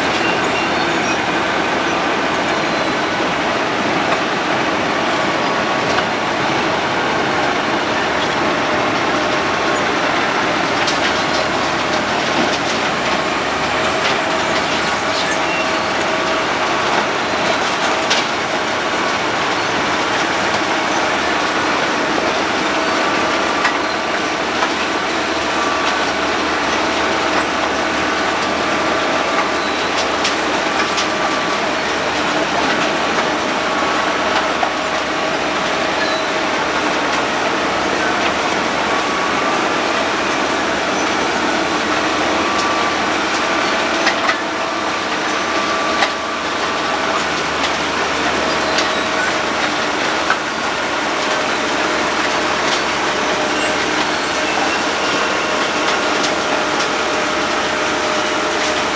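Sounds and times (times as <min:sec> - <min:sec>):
road planer milling drum cutting: 0:00.0 - 0:58.9.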